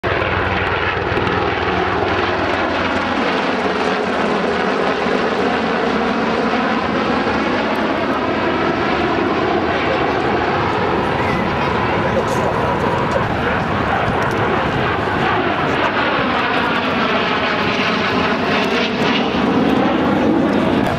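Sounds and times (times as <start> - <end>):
military aircraft flying past: 0.0 - 20.9.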